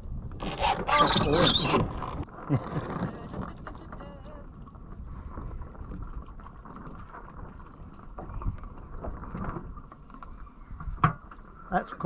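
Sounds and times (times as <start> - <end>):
water lapping at boat hull: 0.0 - 12.0
wind buffeting microphone: 0.0 - 12.0.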